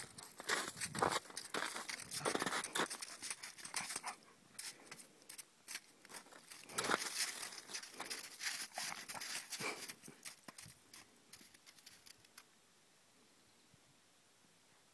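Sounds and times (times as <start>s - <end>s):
footsteps crunching on icy snow: 0.0s - 12.4s.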